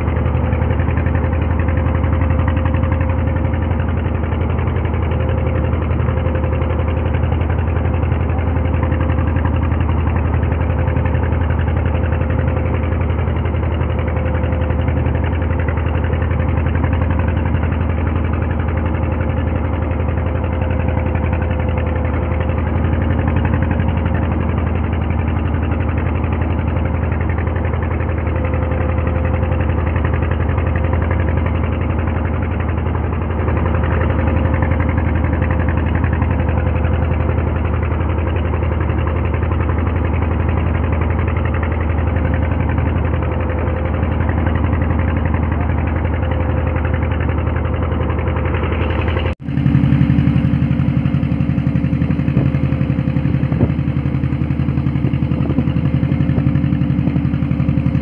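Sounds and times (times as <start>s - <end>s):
boat diesel engine running: 0.0s - 58.0s.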